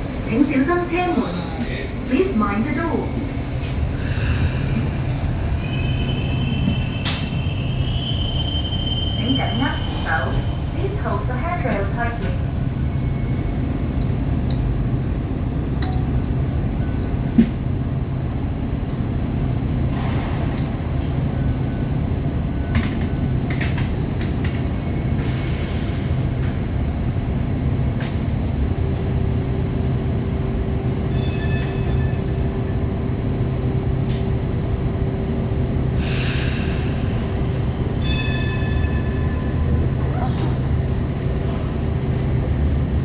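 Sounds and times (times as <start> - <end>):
tram equipment rumbling: 0.0 - 43.0.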